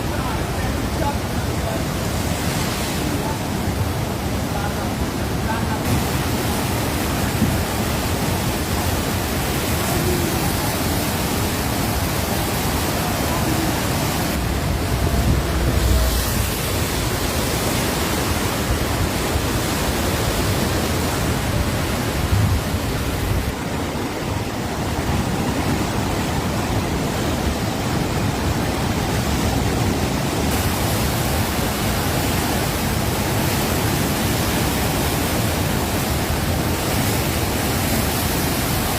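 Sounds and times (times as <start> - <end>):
floodwater rushing through gates: 0.0 - 38.9.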